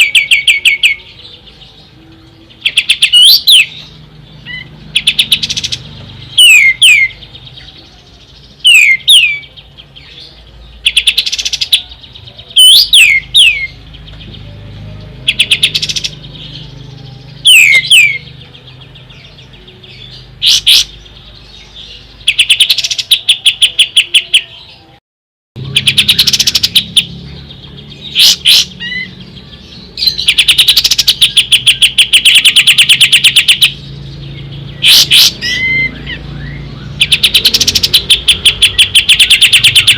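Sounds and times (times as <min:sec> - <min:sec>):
songbird trills and whistles: 0:00.0 - 0:25.0, 0:25.6 - 0:39.9.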